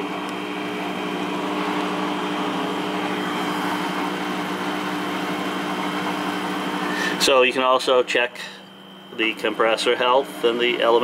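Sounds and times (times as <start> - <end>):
washing machine running: 0.0 - 11.0.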